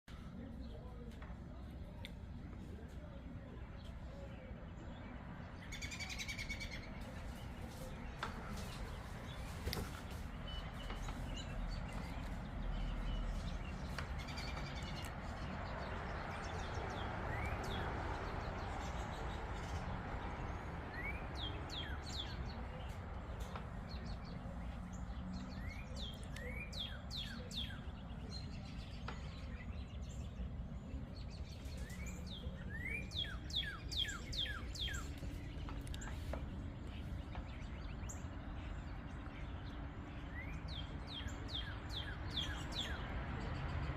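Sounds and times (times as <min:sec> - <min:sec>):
birds chirping: 0:00.0 - 0:43.9
low background noise: 0:00.1 - 0:43.9.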